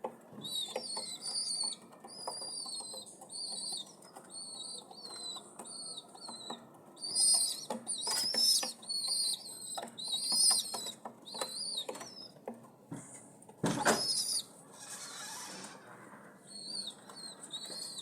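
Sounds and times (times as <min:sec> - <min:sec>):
nestling birds cheeping: 0:00.4 - 0:12.5, 0:13.8 - 0:18.0.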